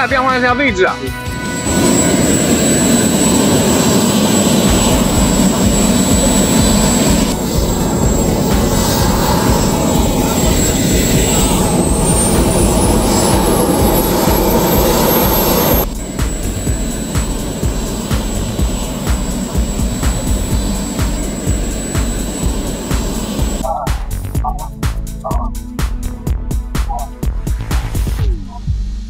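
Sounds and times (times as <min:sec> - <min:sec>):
model jet engine roar and whine: 0:00.0 - 0:23.6
second turbine whine climbing: 0:00.0 - 0:25.4.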